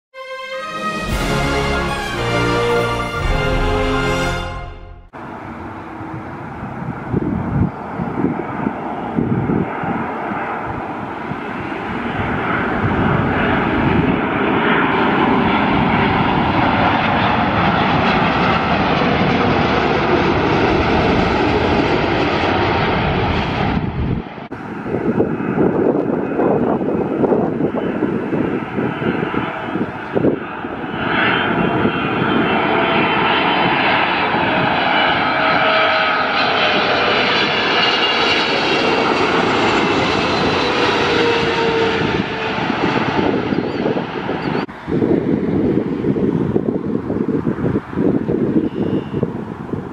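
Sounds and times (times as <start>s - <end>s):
jet airliner passing overhead: 0.2s - 49.9s.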